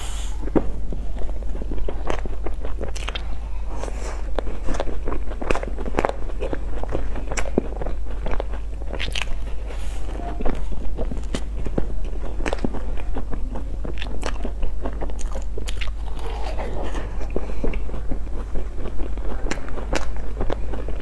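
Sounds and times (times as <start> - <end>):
low hum: 0.0 - 21.0
crunchy chewing: 0.3 - 21.0.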